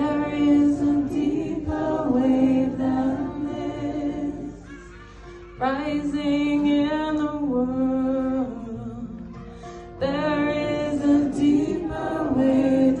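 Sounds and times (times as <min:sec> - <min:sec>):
woman singing folk style: 0:00.0 - 0:13.0.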